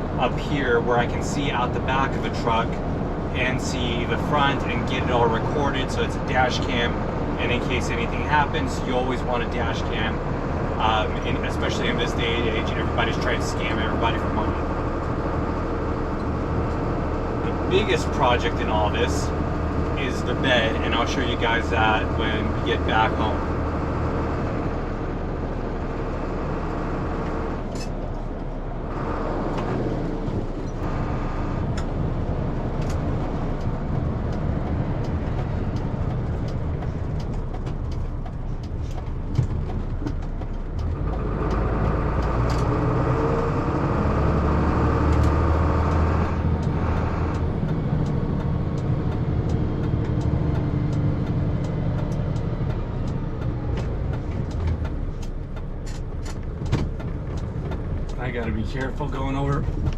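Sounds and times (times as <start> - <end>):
diesel truck engine and road drone: 0.0 - 59.9.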